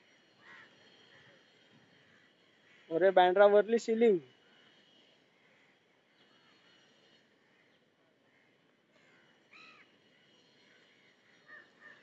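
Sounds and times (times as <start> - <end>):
faint bird calls: 0.0 - 3.0, 4.3 - 12.0.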